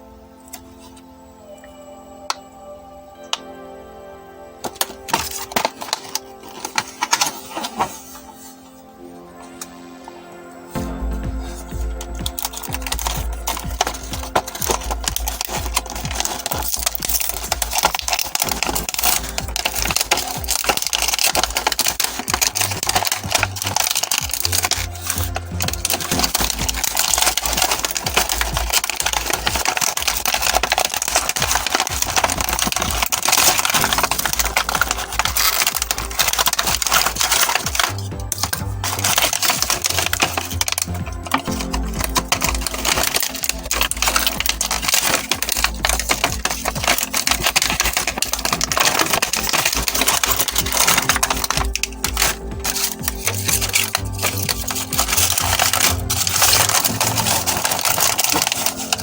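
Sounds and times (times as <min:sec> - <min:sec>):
plastic toy parts clicking: 0:04.6 - 0:08.0, 0:12.0 - 0:59.0
background music with bass: 0:08.8 - 0:59.0.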